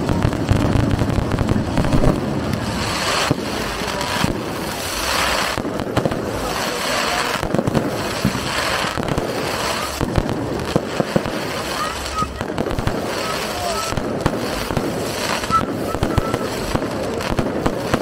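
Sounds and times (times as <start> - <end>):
fireworks bursting with bangs: 0.0 - 18.0
fireworks crackling: 0.0 - 18.0.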